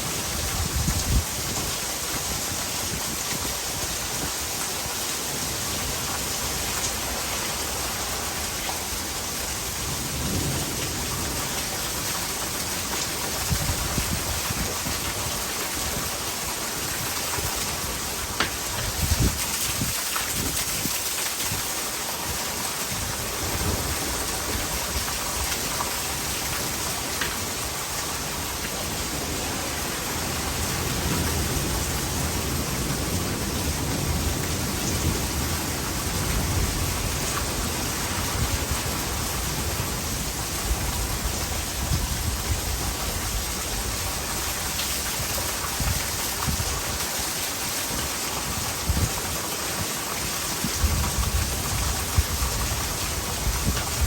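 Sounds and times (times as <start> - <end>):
heavy rain pouring: 0.0 - 54.0
water running into gutter: 0.2 - 54.0.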